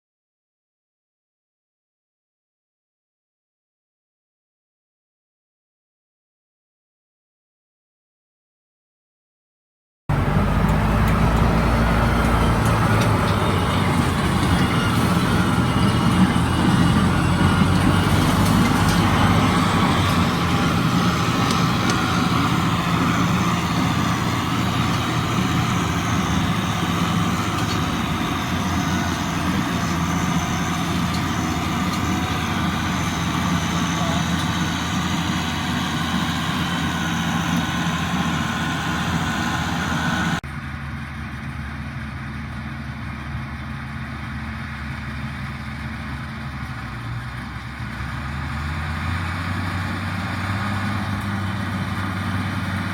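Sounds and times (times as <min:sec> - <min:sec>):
tractor diesel engine running: 0:10.1 - 0:52.9.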